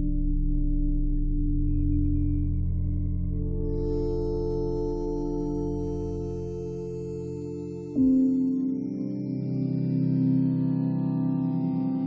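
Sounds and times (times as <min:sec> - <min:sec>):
ambient music chord: 0:00.0 - 0:12.0.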